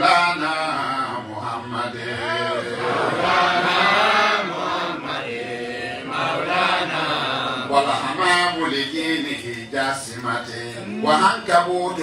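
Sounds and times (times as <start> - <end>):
devotional chanting: 0.0 - 12.0.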